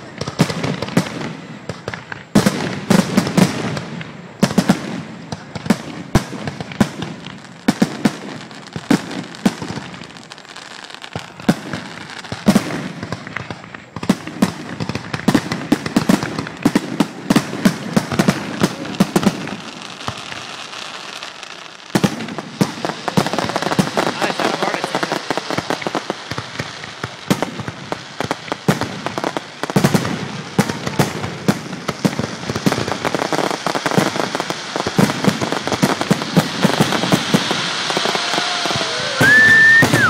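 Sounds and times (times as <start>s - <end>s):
firework crackling: 0.0s - 40.0s.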